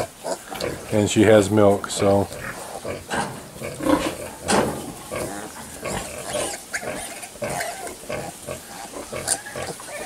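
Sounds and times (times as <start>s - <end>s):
piglets grunting and squeaking: 0.0s - 1.2s, 2.0s - 10.0s.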